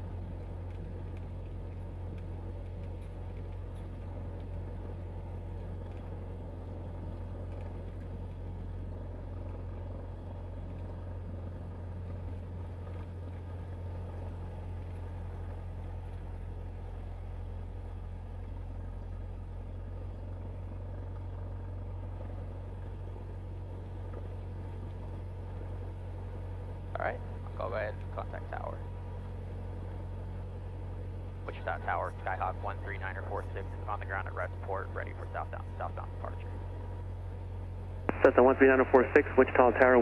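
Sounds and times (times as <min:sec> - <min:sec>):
aircraft engine low drone: 0:00.0 - 0:40.0.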